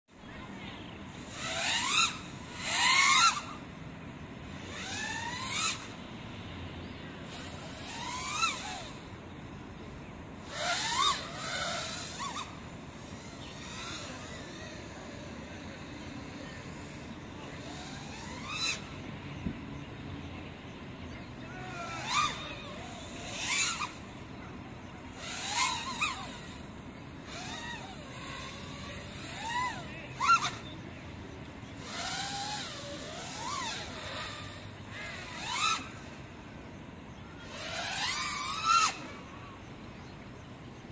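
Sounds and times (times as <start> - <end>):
drone motors whining: 0.1 - 40.9
steady low hum: 0.1 - 40.9.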